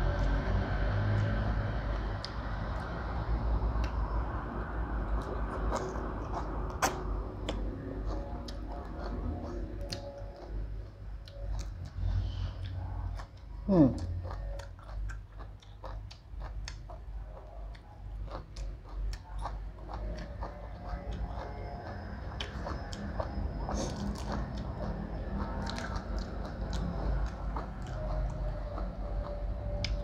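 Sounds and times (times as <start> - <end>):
chewing and lip smacking: 0.1 - 30.0.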